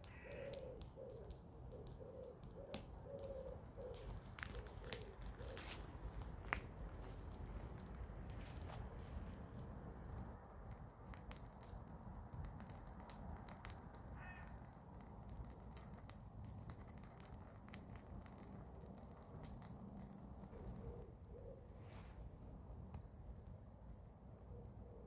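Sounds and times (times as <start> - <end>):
low fire rumble: 0.0 - 24.9
bonfire crackling: 0.0 - 25.0.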